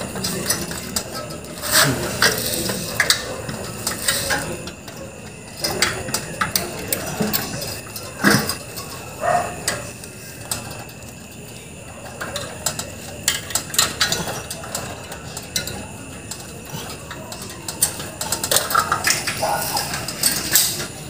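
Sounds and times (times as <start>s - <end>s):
tools clicking and knocking metal: 0.0s - 21.0s.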